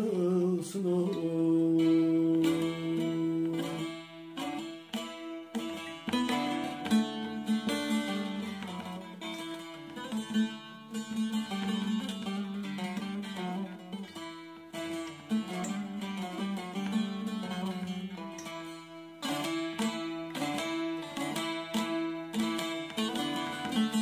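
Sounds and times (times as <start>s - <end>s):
plucked long-necked lute melody: 0.0s - 24.0s.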